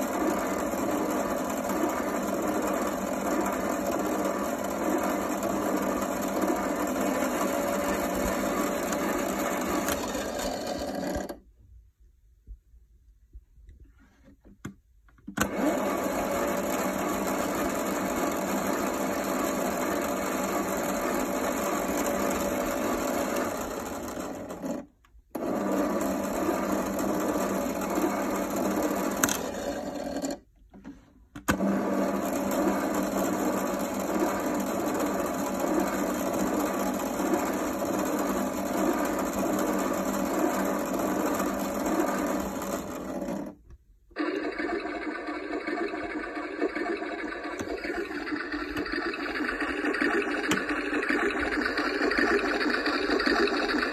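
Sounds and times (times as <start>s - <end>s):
toy washing machine churning: 0.0s - 11.4s, 15.4s - 30.5s, 31.4s - 53.9s.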